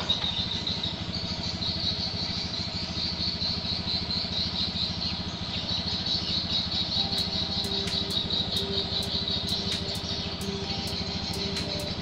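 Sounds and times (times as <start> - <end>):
high-pitched insect trill: 0.0 - 12.0
small engine running: 0.0 - 12.0.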